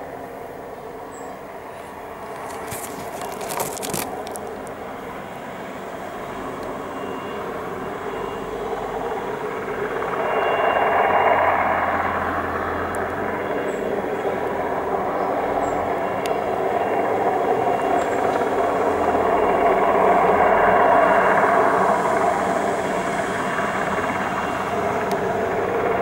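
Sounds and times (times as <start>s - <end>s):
helicopter flying overhead: 0.0s - 26.0s.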